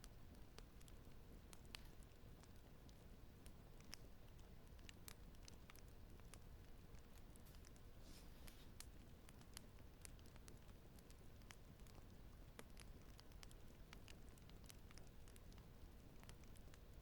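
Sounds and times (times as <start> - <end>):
fireplace crackling: 0.0 - 17.0.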